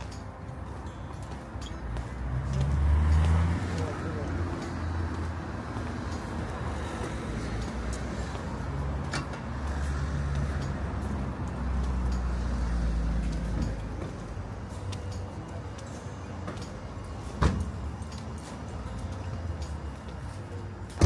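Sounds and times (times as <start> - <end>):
town street background: 0.0 - 21.0
vehicle engine rumble: 0.0 - 21.0.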